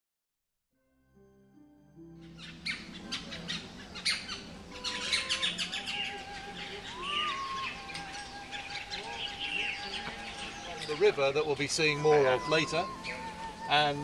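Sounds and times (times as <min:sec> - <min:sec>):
small birds chirping: 0:02.1 - 0:14.0.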